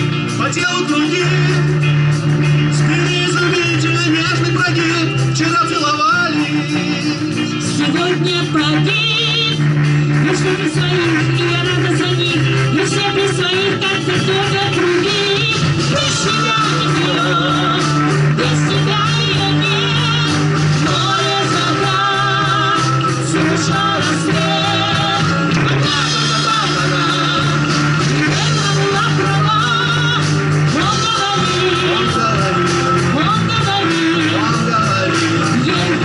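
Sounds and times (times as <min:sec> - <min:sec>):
live rock band: 0:00.0 - 0:36.0
woman singing: 0:06.7 - 0:36.0.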